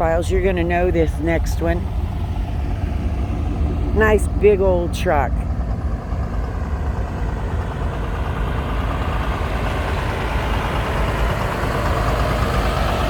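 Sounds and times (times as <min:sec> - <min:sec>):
truck engine rumbling past: 0:00.0 - 0:13.0.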